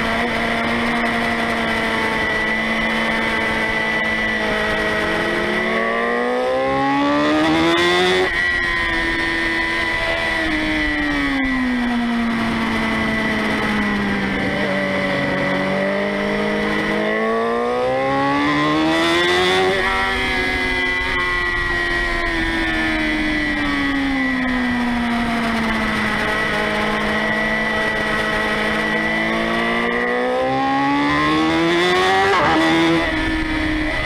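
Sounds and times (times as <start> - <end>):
motorcycle engine revving: 0.0 - 34.0
steady high whine: 0.0 - 34.0.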